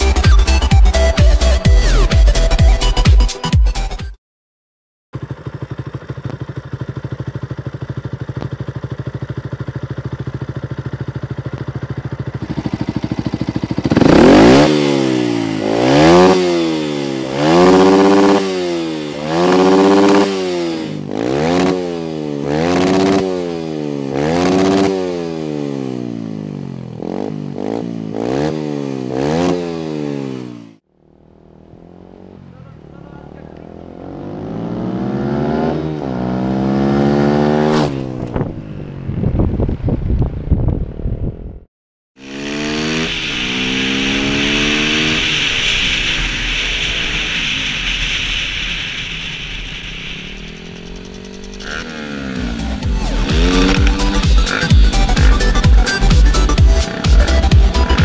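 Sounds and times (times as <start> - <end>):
motorcycle engine revving: 5.2 - 58.0.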